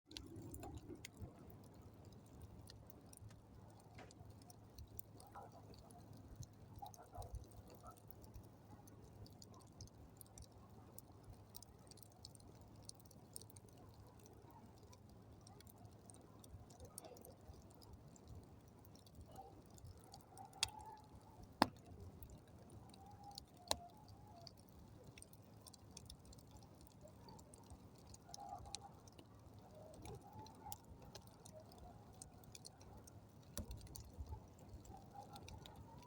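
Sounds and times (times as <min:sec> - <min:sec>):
campfire crackling: 0:00.1 - 0:36.0.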